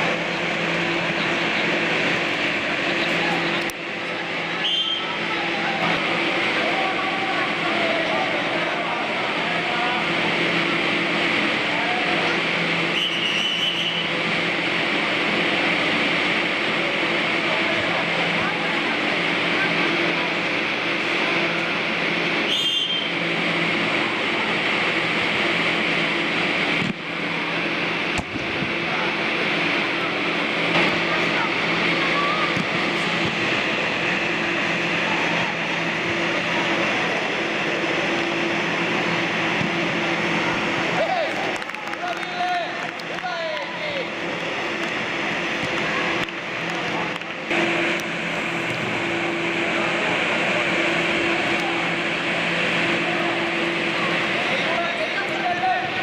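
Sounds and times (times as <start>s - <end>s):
blower fans humming: 0.0s - 56.0s.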